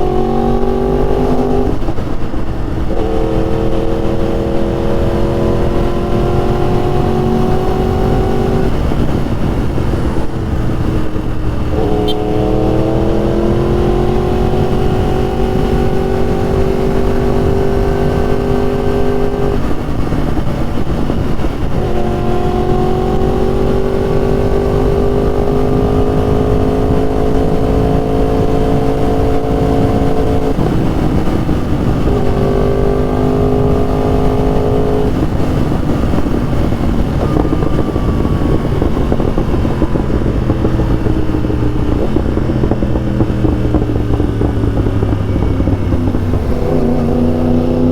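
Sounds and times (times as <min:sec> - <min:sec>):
motorcycle engine accelerating: 0:00.0 - 0:47.9
wind noise on microphone: 0:00.0 - 0:47.9.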